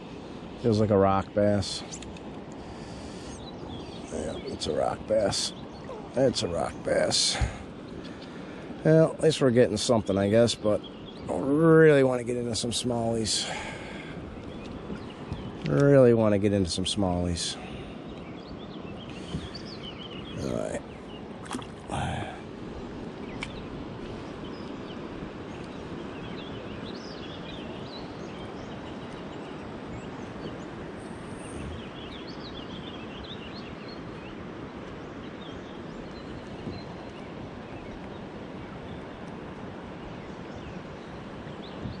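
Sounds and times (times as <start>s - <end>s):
river water rushing: 0.0s - 42.0s
small birds chirping faintly: 0.0s - 42.0s.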